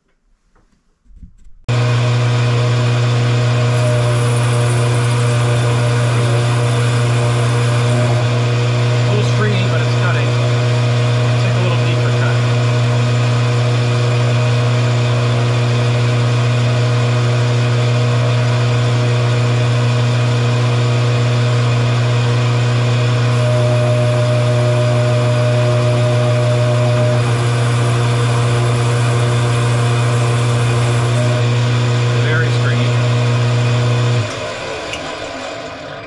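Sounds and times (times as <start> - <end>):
metal lathe motor hum: 1.7 - 36.0.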